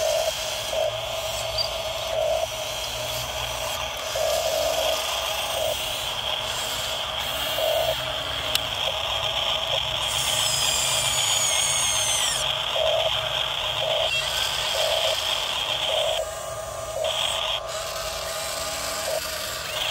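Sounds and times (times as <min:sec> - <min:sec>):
electric gear motors whirring: 0:00.0 - 0:19.9
high motor whine: 0:00.0 - 0:19.9.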